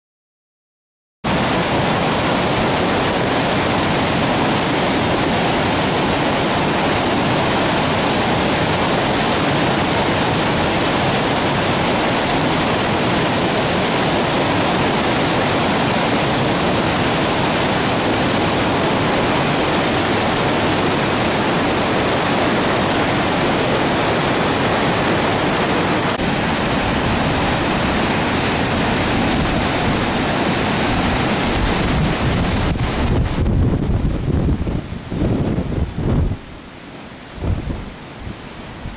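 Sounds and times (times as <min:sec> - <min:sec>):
river rushing over a weir: 0:01.3 - 0:38.9.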